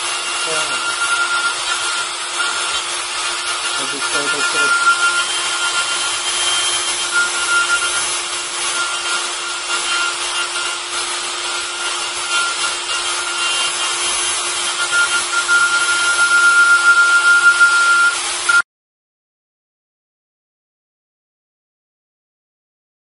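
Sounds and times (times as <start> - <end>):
cutter rasping in material: 0.0 - 18.6
spindle whine: 0.0 - 18.6.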